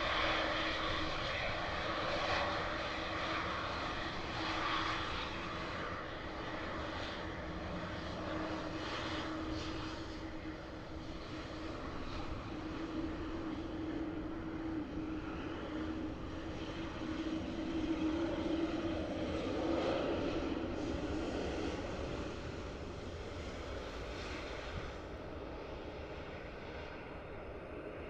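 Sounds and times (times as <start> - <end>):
jet engines at takeoff thrust: 0.0 - 28.0.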